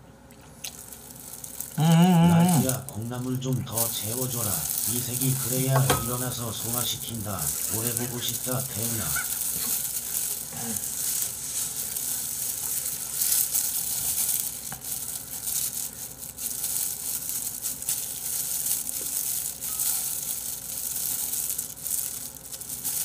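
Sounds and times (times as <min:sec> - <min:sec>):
plastic gloves crinkling: 0:00.2 - 0:23.0.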